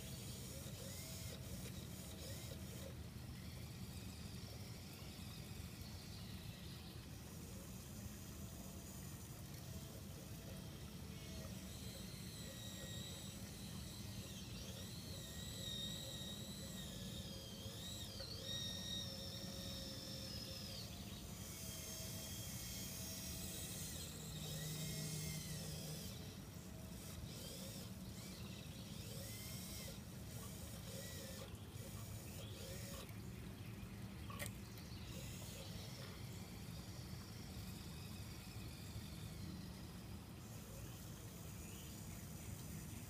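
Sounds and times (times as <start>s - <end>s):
electric motors and gears whining: 0.0s - 43.0s.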